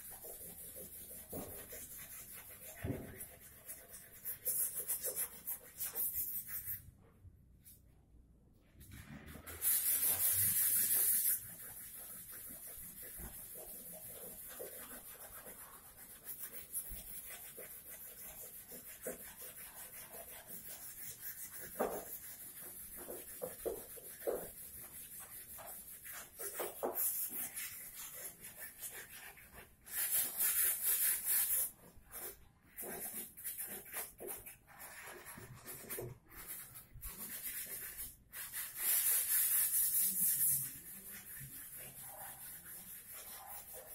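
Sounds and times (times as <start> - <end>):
scratchy rubbing: 0.0 - 6.9, 8.8 - 43.9.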